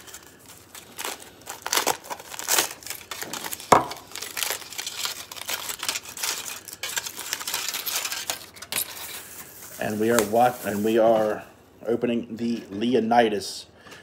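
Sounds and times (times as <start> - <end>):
foil crinkling and rustling: 0.0 - 11.4.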